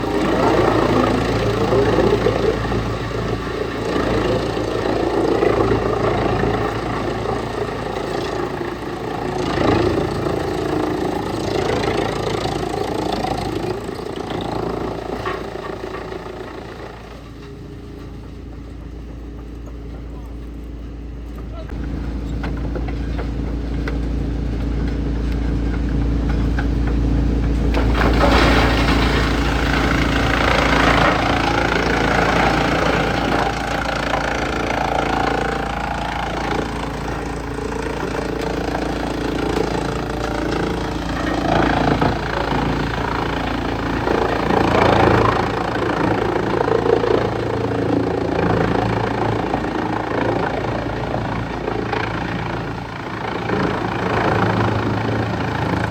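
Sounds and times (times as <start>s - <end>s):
wood chipper engine drone: 0.0s - 55.9s.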